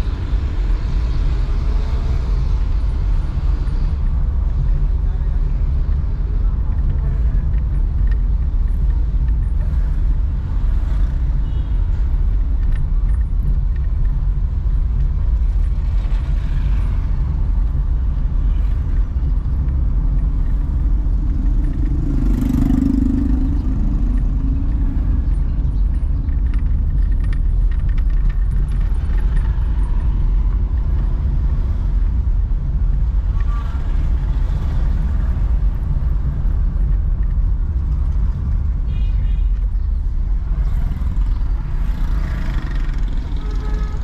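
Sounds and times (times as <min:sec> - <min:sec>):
car driving rumble: 0:00.0 - 0:44.0.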